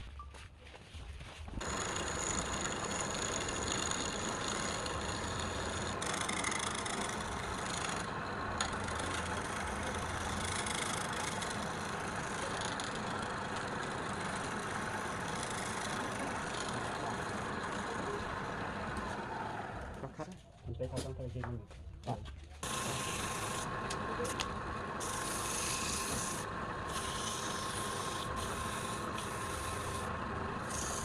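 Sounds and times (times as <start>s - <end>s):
wood lathe running: 1.6s - 20.1s, 22.6s - 31.0s.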